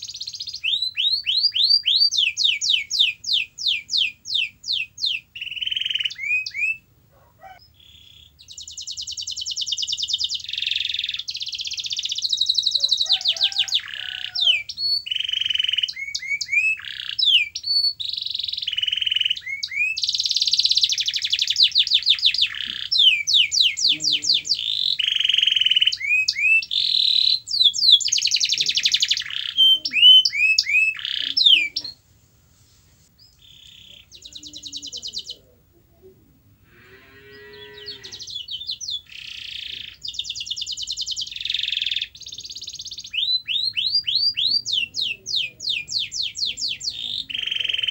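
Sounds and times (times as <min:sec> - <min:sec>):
canary singing trills: 0:00.0 - 0:32.0, 0:33.1 - 0:47.9.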